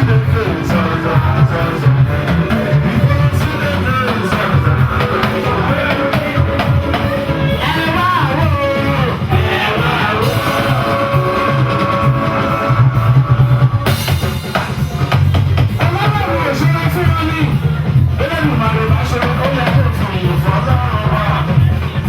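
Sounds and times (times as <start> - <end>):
bass: 0.0 - 22.0
drums: 0.0 - 22.0
voices singing: 0.0 - 22.0.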